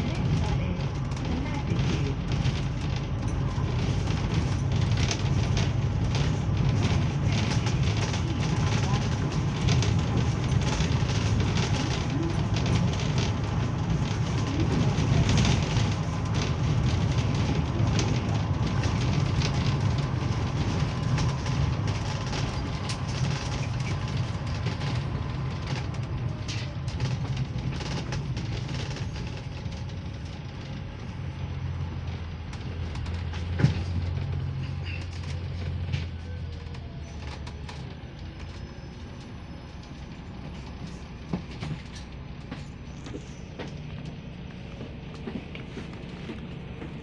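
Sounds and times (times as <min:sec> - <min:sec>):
vehicle rumble from inside: 0:00.0 - 0:47.0.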